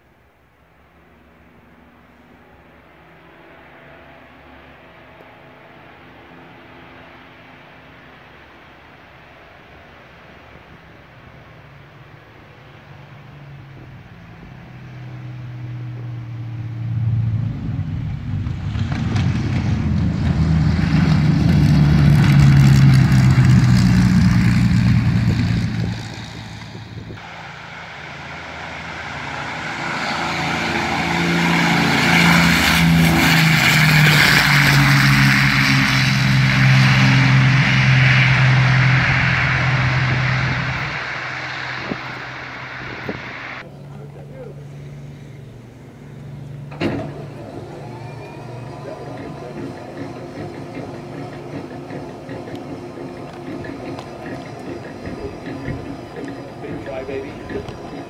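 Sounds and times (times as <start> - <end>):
aircraft engines passing by: 0.0 - 58.0.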